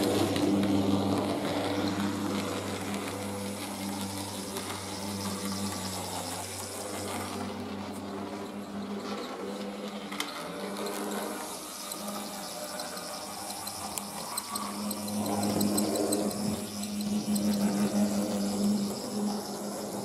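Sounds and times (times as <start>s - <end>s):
model train motor humming: 0.0s - 20.0s
rail noise: 0.0s - 20.0s.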